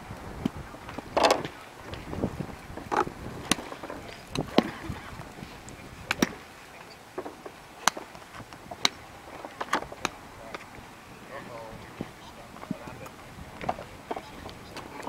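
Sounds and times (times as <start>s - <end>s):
golf clubs striking balls: 0.4s - 15.0s.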